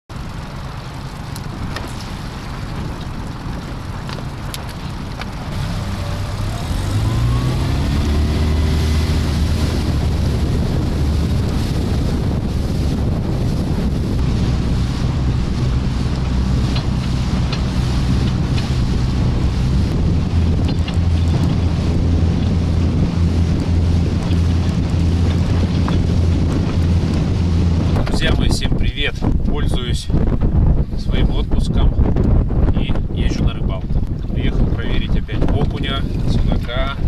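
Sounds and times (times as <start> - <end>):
outboard motor running: 0.1 - 37.0
wind buffeting microphone: 0.1 - 37.0.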